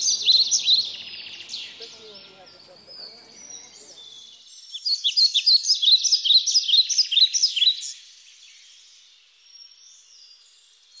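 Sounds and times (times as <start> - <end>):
songbird singing high chirps: 0.0 - 11.0.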